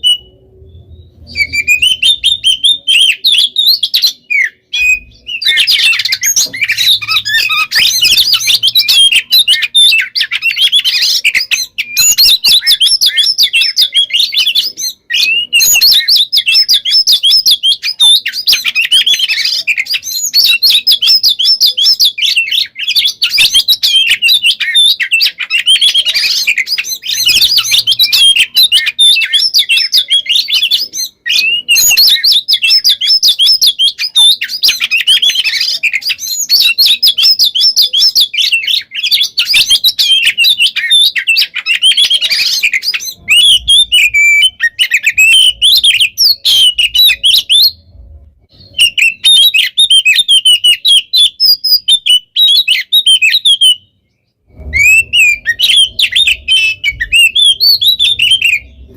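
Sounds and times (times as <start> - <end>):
bird singing whistles and warbles: 0.0 - 58.9.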